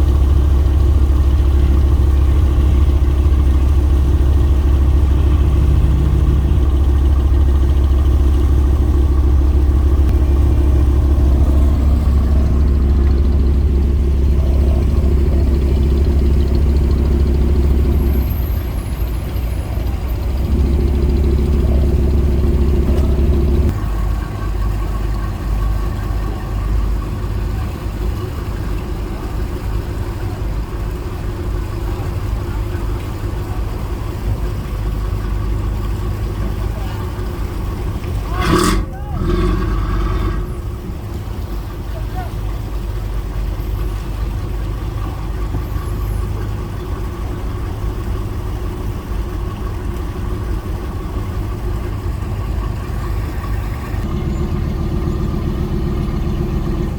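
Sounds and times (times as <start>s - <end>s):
boat engine running: 0.0s - 56.9s.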